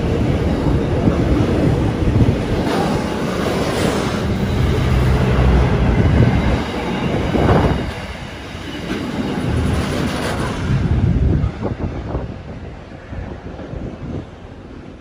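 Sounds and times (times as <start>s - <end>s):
freight train wagons rolling: 0.0s - 15.0s.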